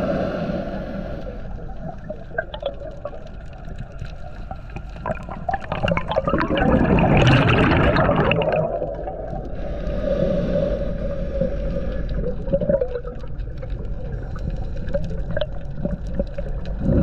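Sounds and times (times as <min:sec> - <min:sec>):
rush of exhaled bubbles: 0:00.0 - 0:17.0.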